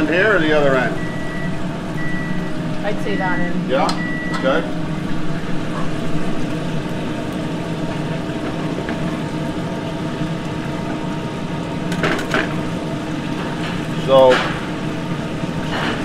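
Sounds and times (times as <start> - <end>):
exhaust fan humming: 0.0 - 16.0.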